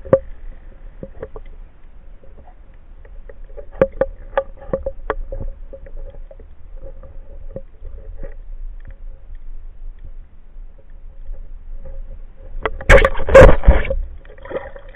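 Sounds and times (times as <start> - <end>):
faint underwater clicks and taps: 0.0 - 12.9
low hum: 0.0 - 14.9.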